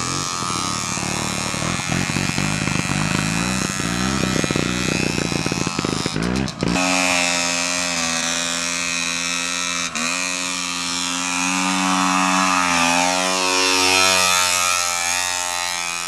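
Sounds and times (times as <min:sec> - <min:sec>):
two-stroke motorcycle engine running: 0:00.0 - 0:16.0.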